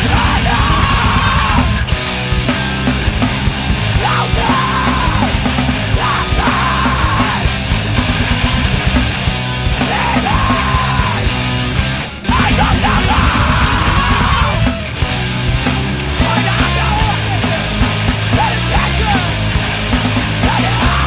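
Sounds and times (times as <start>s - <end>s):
heavy screamo band music: 0.0s - 21.0s
yelled vocals: 0.0s - 21.0s.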